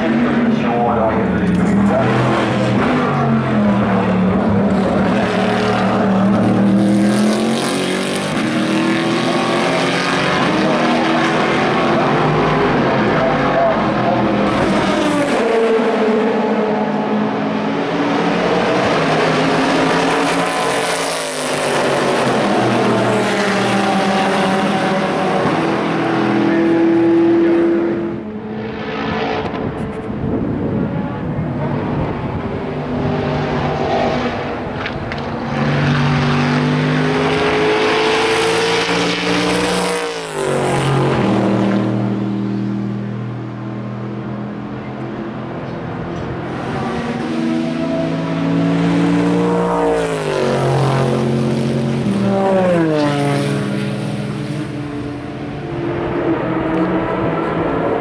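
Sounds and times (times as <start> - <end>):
race car engines revving: 0.0 - 58.0.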